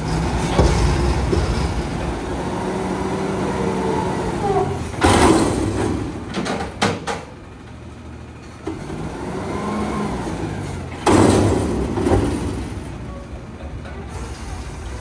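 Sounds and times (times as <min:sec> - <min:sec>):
garbage truck engine running: 0:00.0 - 0:15.0.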